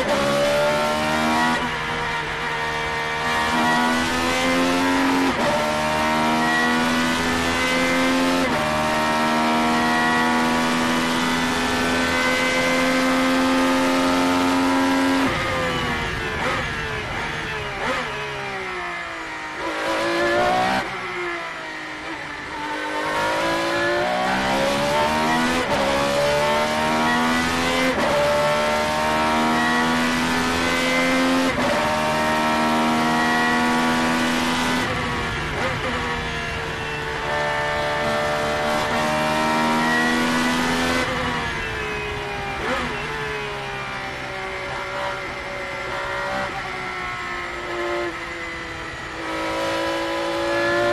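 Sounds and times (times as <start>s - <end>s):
racing car engine at high revs: 0.0s - 50.9s.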